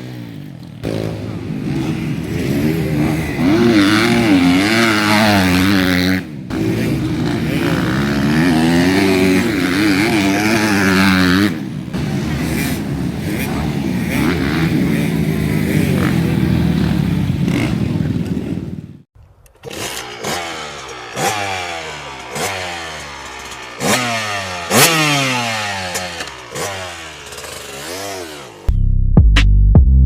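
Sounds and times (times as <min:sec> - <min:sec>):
dirt bike throttle blips: 0:00.0 - 0:28.8
motocross engine drone: 0:00.0 - 0:29.0.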